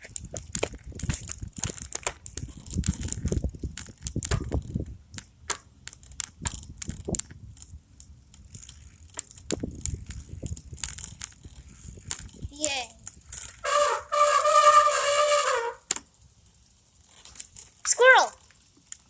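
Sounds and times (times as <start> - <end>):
bicycle frame rattling: 0.0 - 19.0
bicycle tyres crunching: 0.0 - 19.0.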